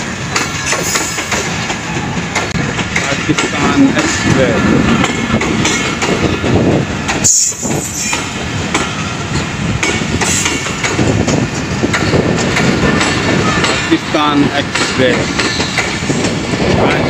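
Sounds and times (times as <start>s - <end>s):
passenger train rumbling past: 0.0s - 17.0s
wheels clacking over rail joints: 0.0s - 17.0s.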